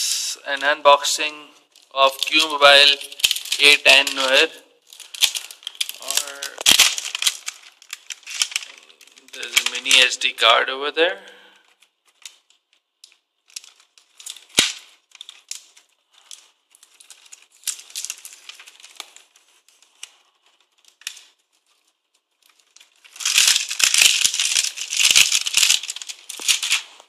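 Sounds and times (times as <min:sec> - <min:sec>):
plastic wrap crinkling: 0:00.4 - 0:27.0.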